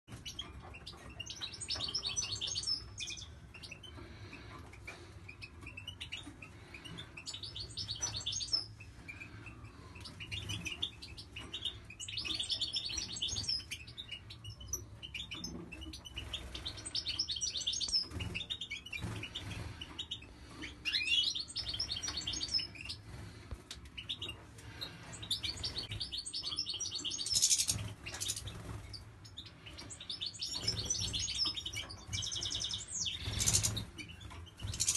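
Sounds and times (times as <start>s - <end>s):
finches twittering: 0.1s - 34.9s.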